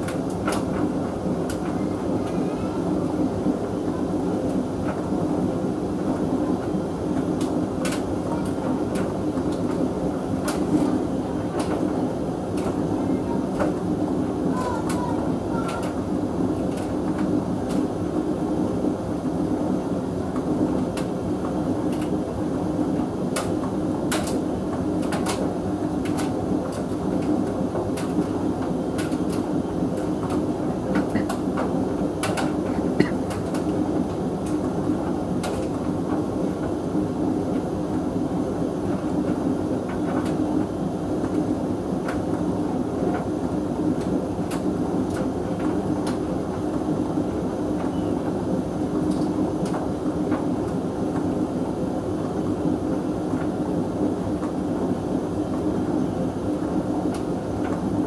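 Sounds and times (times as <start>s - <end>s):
tumble dryer droning: 0.0s - 58.0s.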